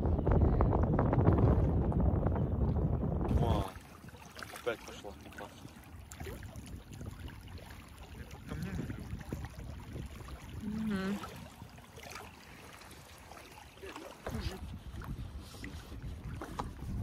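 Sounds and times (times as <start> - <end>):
wind buffeting microphone: 0.0 - 13.4, 14.2 - 17.0
small waves lapping: 2.6 - 17.0.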